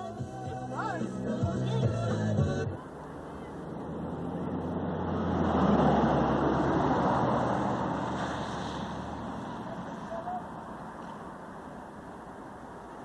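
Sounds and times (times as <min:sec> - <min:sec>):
rushing road noise: 0:00.0 - 0:13.0
vehicle engine hum: 0:00.0 - 0:13.0.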